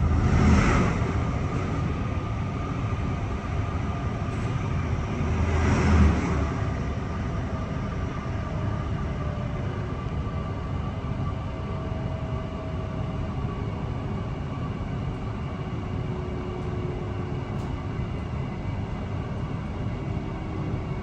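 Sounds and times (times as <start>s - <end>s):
train deep rumble: 0.0s - 21.0s.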